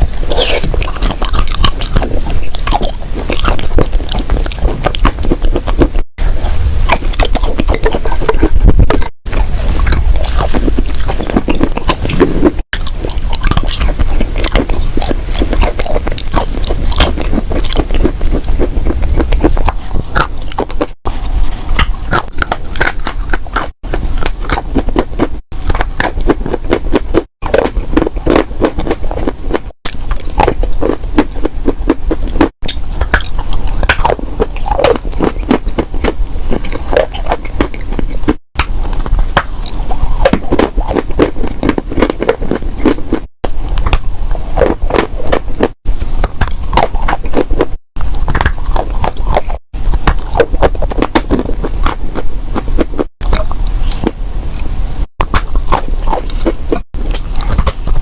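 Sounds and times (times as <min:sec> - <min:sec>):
dry clay crunching when chewed: 0:00.0 - 0:58.0.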